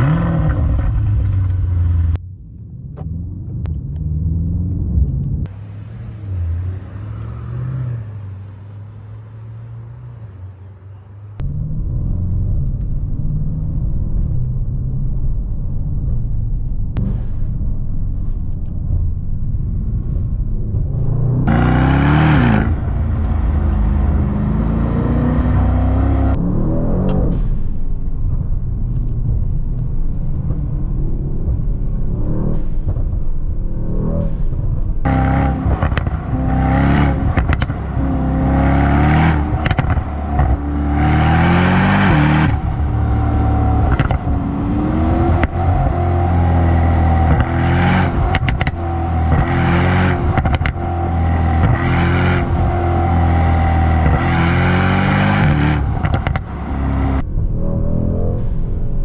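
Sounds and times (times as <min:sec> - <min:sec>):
exhaust crackles and pops: 0:00.0 - 0:07.4, 0:10.9 - 0:59.0
car engine accelerating hard: 0:00.0 - 0:17.5, 0:18.2 - 0:59.0.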